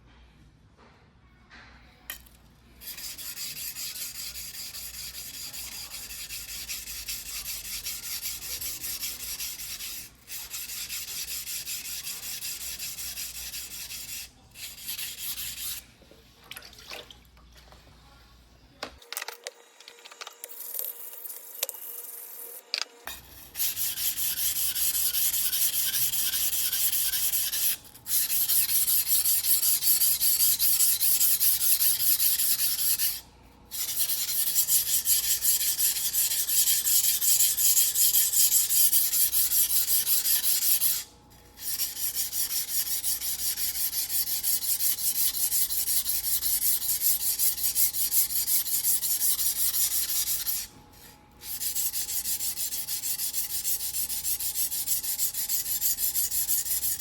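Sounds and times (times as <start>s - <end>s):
blade scraping on whetstone: 2.1s - 15.8s, 20.8s - 41.0s, 41.6s - 50.7s, 51.4s - 57.0s.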